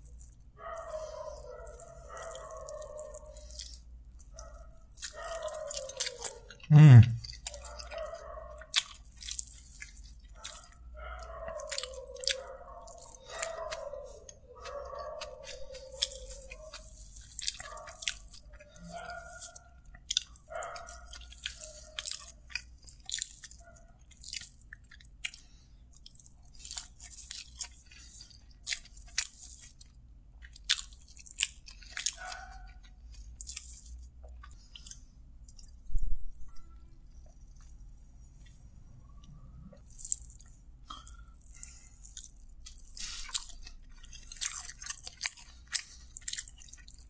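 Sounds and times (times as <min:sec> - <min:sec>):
close chewing with mouth clicks: 0:00.0 - 0:47.0.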